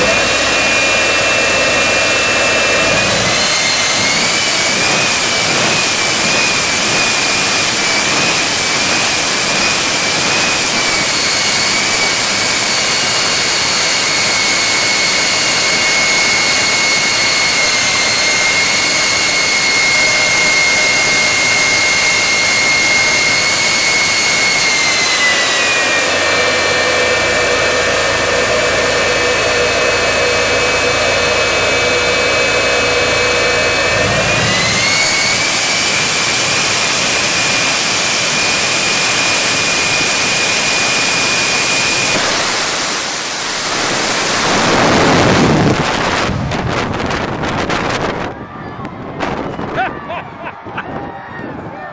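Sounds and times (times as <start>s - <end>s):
jet engine whining: 0.0s - 51.9s.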